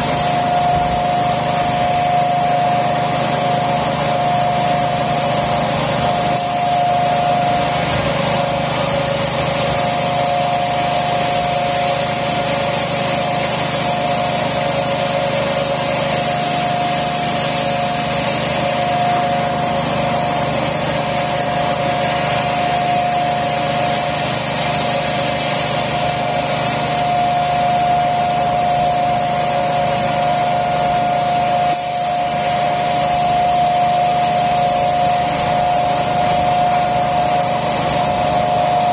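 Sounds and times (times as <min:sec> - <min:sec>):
machinery whine and hiss: 0:00.0 - 0:38.9.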